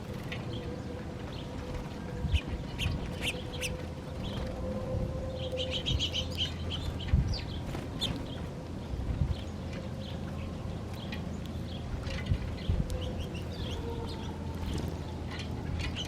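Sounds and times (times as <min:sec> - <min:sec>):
small birds chirping: 0:00.0 - 0:04.6, 0:05.4 - 0:16.0
steady low rumble: 0:00.0 - 0:16.0.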